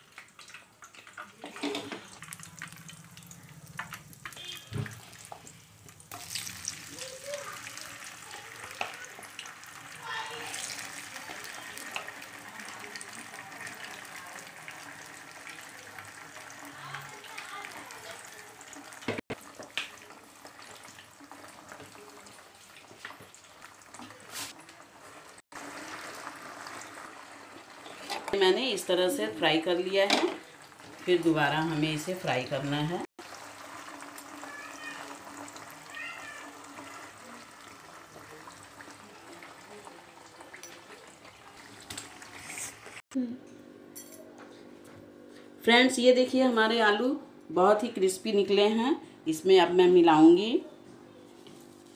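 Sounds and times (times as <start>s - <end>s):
potatoes deep-frying in oil: 0.0s - 43.0s.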